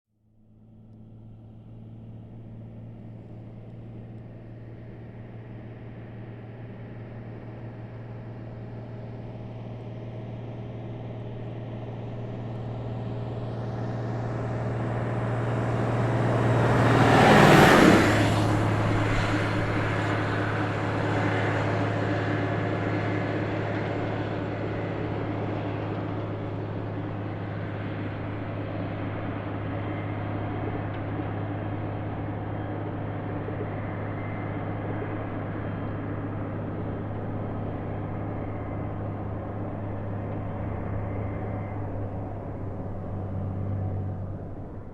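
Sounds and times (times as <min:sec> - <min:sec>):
truck passing by: 0:00.5 - 0:44.9.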